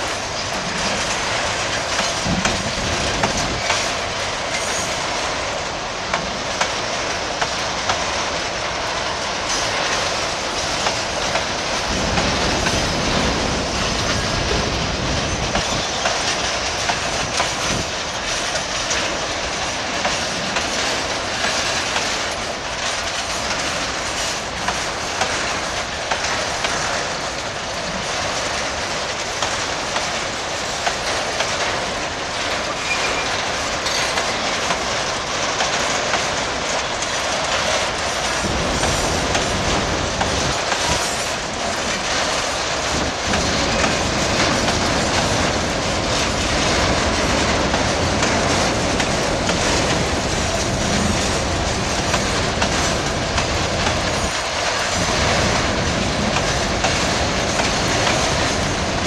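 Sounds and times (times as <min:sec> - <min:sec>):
wheels clicking over rail joints: 0:00.0 - 0:59.0.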